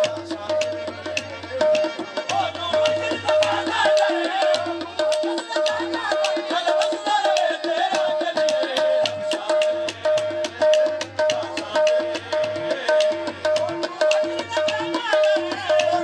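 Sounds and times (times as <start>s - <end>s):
hand claps: 0.0s - 16.0s
harmonium: 0.0s - 16.0s
tabla drumming: 0.0s - 16.0s.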